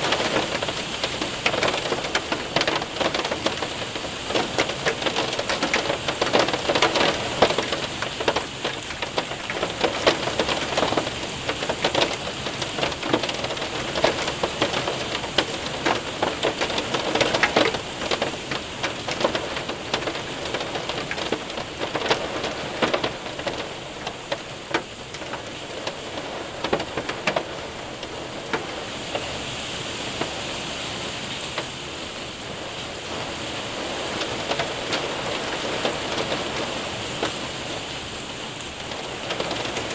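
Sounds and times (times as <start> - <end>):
hailstones ticking on window: 0.0 - 39.9
steady hiss of rain: 0.0 - 39.9.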